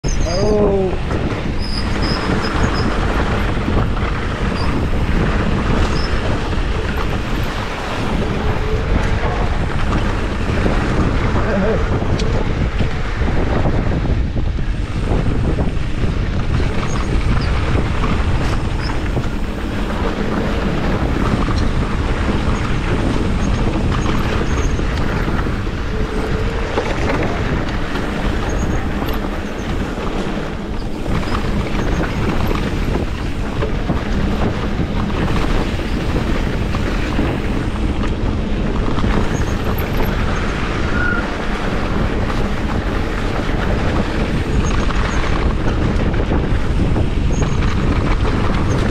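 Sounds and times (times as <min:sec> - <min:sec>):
small clicks from trail: 0:00.0 - 0:14.1, 0:14.8 - 0:48.9
bike tyre and frame rattle: 0:00.0 - 0:48.9
wind on microphone: 0:00.0 - 0:48.9.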